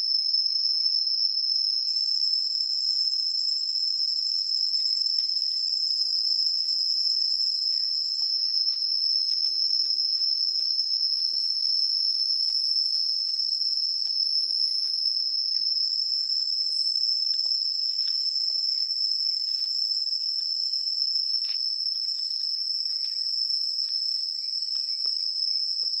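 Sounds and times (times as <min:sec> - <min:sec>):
insects trilling chorus: 0:00.0 - 0:26.0.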